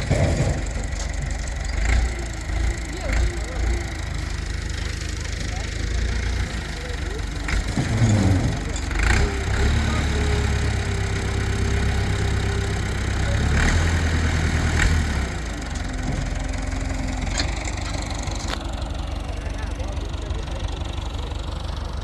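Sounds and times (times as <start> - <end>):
farm machine engine rumbling: 0.0 - 22.0.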